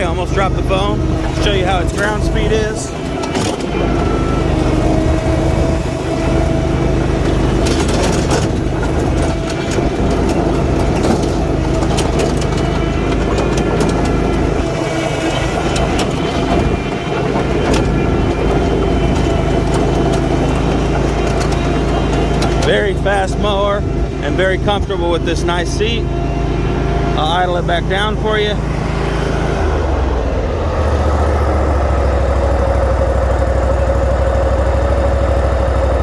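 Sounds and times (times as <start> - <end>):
mower engine running at high throttle: 0.0 - 36.0.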